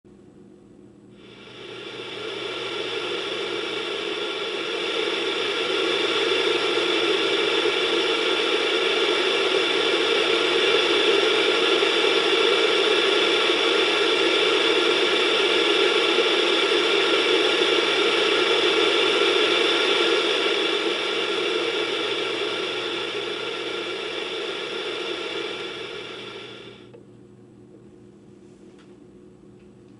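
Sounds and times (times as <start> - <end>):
white noise hiss: 1.1 - 26.9.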